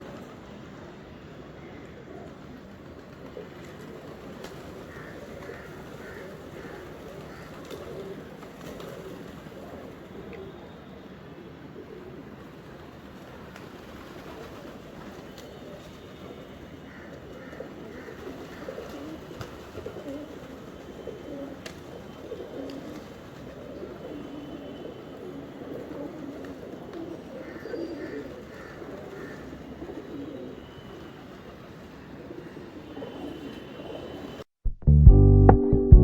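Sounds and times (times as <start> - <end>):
pigeons cooing: 2.0 - 10.8, 11.8 - 34.4.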